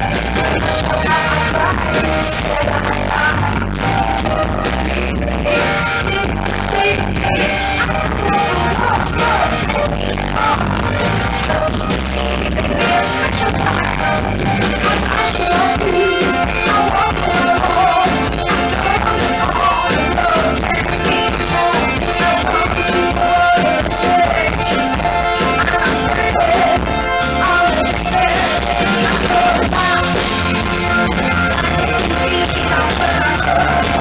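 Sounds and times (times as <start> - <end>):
drums: 0.0 - 34.0
electric guitar: 0.0 - 34.0
woman singing: 0.0 - 34.0.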